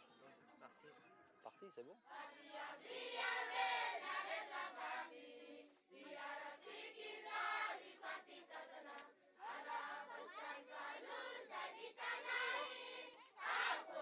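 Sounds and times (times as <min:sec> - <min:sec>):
children singing in chorus: 0:02.1 - 0:14.0.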